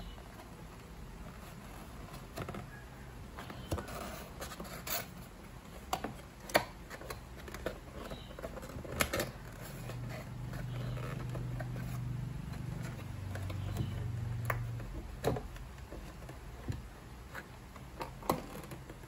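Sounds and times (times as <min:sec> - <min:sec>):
cardboard and paper rustling: 0:00.4 - 0:19.0.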